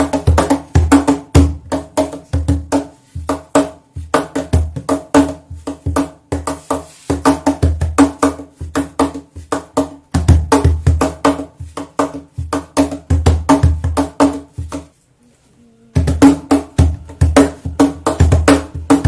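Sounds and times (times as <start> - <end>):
cajon played by hand: 0.0 - 15.0, 15.9 - 19.0.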